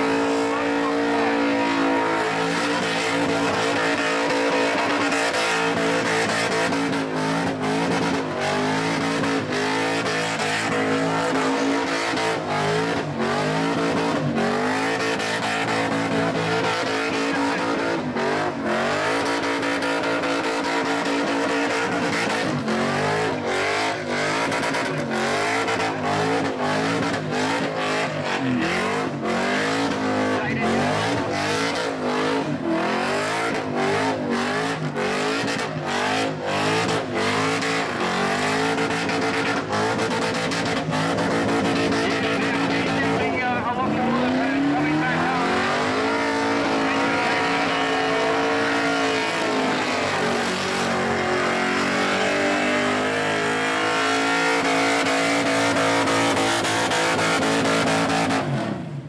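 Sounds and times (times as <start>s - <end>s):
car engine revving hard: 0.0s - 59.0s.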